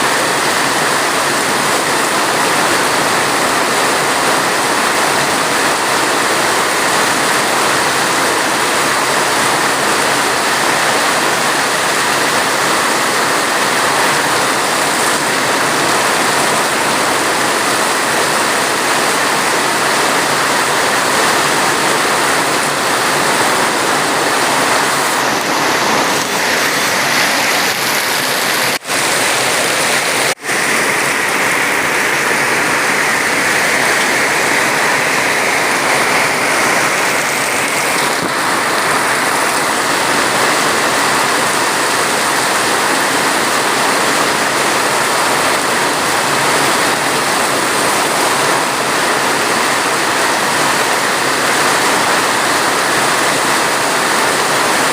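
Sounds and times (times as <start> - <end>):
dense rain: 0.0 - 54.9.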